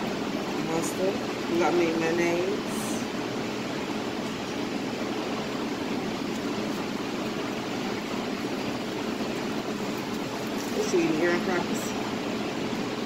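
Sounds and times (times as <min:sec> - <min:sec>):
exhaust hood fan rushing: 0:00.0 - 0:13.0.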